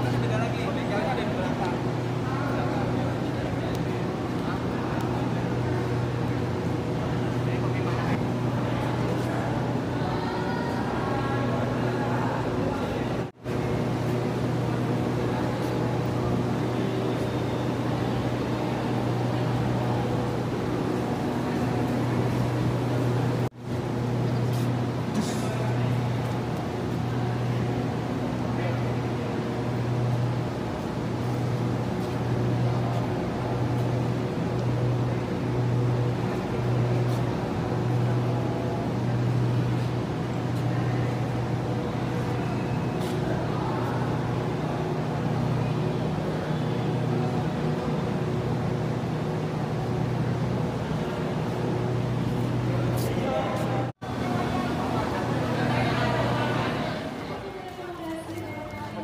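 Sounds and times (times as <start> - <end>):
large engine idling: 0.0 - 59.0.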